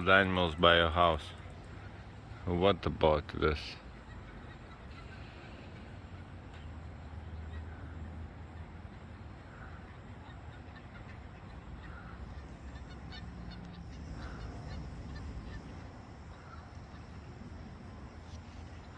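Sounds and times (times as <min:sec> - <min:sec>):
steady low rumble: 0:00.0 - 0:18.9
waterfowl calling faintly: 0:00.0 - 0:18.9.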